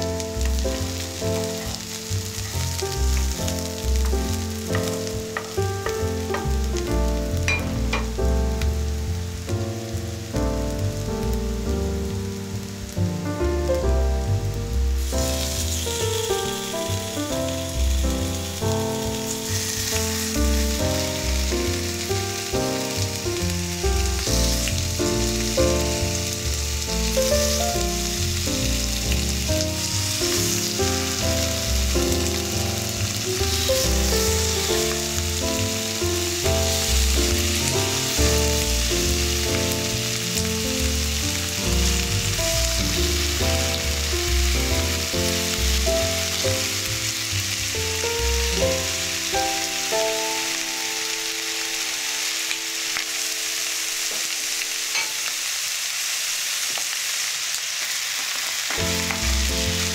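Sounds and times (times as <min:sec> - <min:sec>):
background music: 0:00.0 - 0:54.9, 0:58.8 - 0:59.9
chicken sizzling in frying pan: 0:00.0 - 0:59.9.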